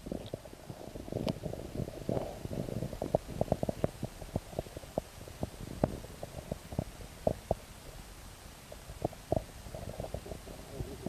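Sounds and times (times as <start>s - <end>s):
muffled underwater gurgle: 0.0s - 11.0s.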